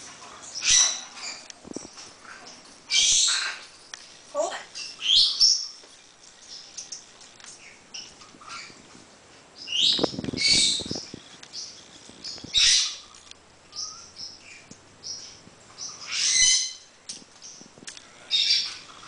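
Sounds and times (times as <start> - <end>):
parrot calls and squawks: 0.2 - 5.8, 6.7 - 9.0, 9.7 - 14.7, 15.3 - 17.0, 18.0 - 19.0.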